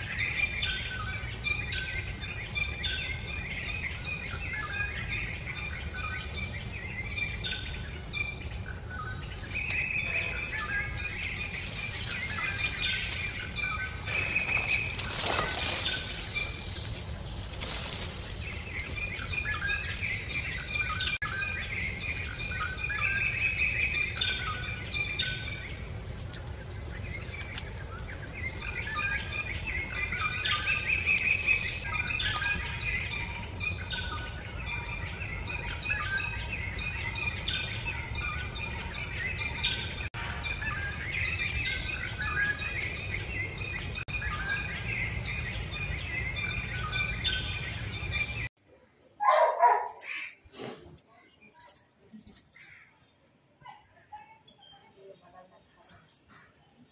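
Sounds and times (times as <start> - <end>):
birds chirping and calling: 0.0 - 48.5, 49.2 - 53.3, 54.0 - 56.9.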